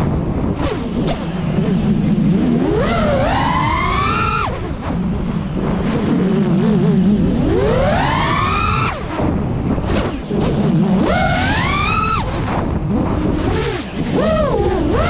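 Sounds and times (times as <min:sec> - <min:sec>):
drone motors whining: 0:00.0 - 0:15.0
steady rushing noise: 0:00.0 - 0:15.0.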